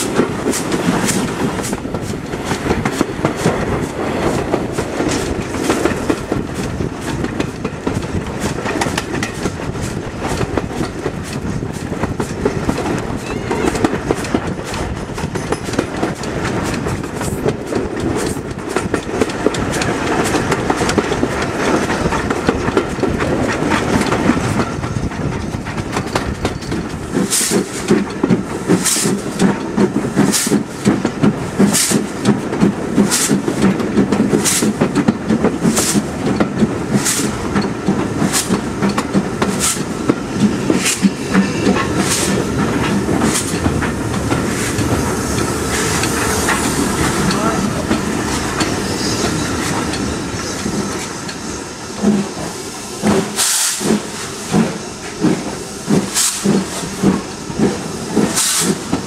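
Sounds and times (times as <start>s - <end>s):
train wheels clattering: 0.0s - 59.0s
wheels clacking over rail joints: 0.0s - 59.0s.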